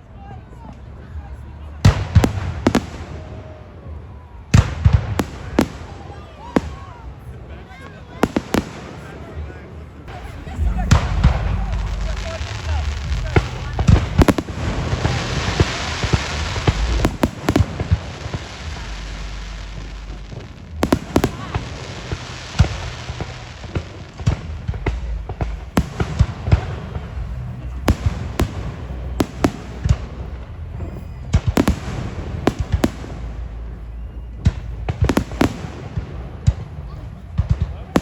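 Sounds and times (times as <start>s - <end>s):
fireworks crackling: 1.5s - 38.0s
fireworks bangs: 1.7s - 38.0s.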